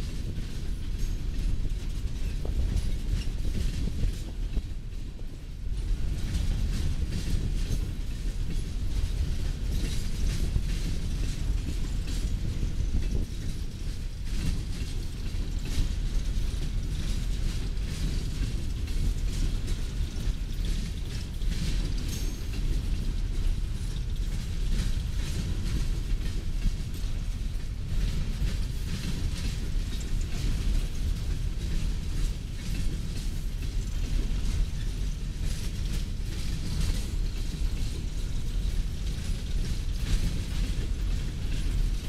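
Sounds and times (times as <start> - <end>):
freight cars clanking and rattling: 0.0 - 42.0
steel wheels rumbling on rail: 0.0 - 42.0.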